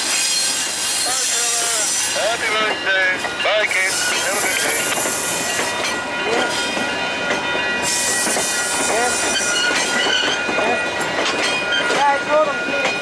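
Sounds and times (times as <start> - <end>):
train rolling on rails: 0.0 - 13.0.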